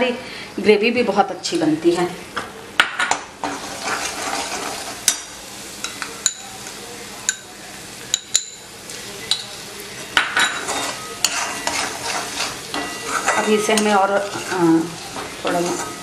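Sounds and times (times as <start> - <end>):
food sizzling in hot oil: 3.0 - 16.0.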